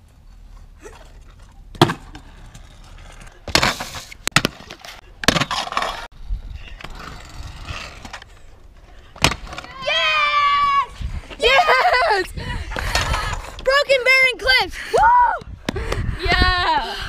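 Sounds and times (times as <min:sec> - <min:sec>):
scooter wheels rolling on concrete: 0:00.0 - 0:14.6.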